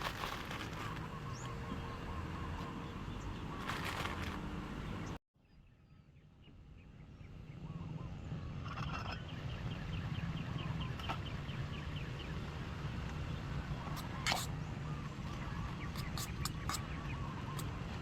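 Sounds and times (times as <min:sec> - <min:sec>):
birds calling: 0:00.0 - 0:05.2, 0:06.4 - 0:18.0.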